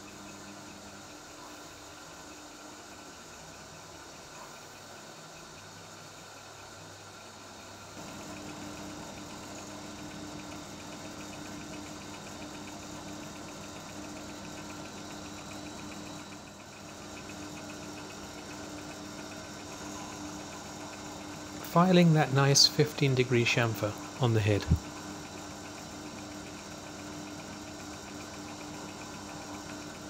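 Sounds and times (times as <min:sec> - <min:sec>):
mini lathe motor humming: 0:00.0 - 0:30.0.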